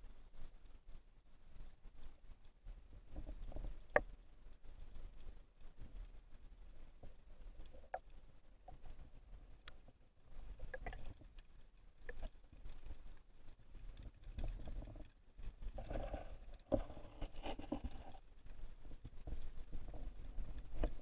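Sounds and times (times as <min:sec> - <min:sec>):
soft underwater knocks and clicks: 0:01.6 - 0:21.0.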